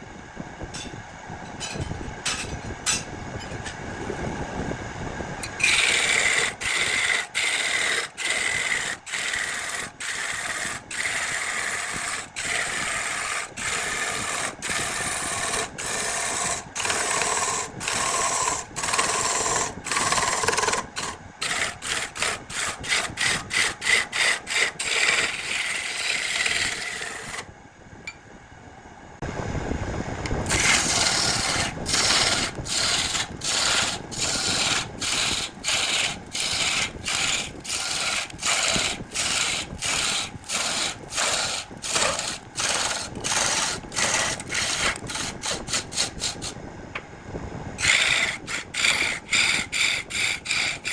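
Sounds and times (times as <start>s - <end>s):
tool scraping spinning wood: 5.4s - 27.5s, 30.3s - 46.6s, 47.8s - 50.9s.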